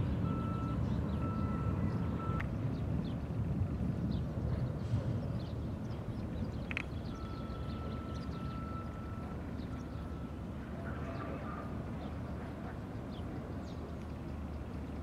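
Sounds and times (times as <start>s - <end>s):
distant train rumbling on track: 0.0s - 15.0s.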